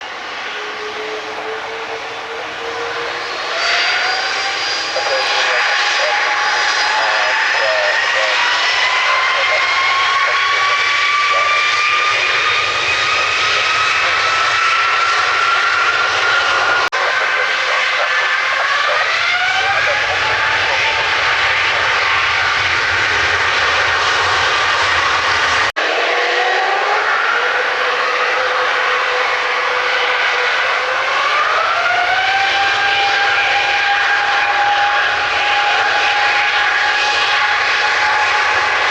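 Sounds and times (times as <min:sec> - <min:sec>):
rising engine whine: 0:00.0 - 0:38.9
turbine engines powering up: 0:00.0 - 0:38.9.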